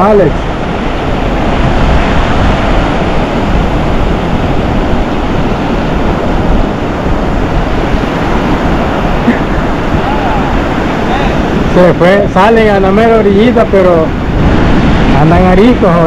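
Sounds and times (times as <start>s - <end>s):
ocean surf washing up beach: 0.0s - 16.0s
wind on microphone: 0.0s - 16.0s.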